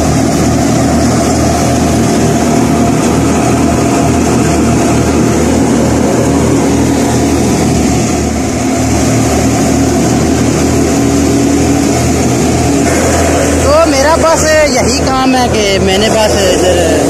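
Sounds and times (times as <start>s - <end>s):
low engine hum: 0.0s - 17.0s
threshing machine drone: 0.0s - 17.0s.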